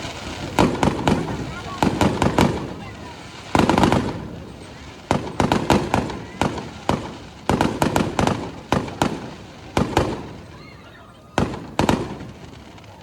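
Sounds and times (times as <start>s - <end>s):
fireworks bangs echoing: 0.0s - 13.0s.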